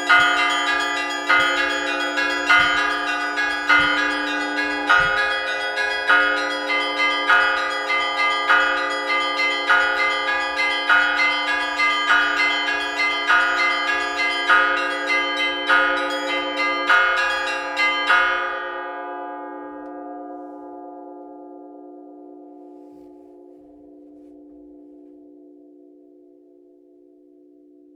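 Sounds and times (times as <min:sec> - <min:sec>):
large bells ringing: 0:00.0 - 0:22.4.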